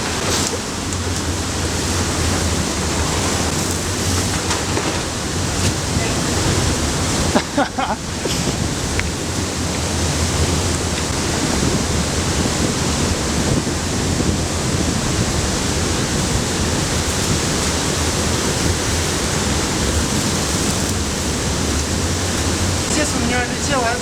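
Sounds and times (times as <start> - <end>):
ventilation fan air rush: 0.0 - 24.0.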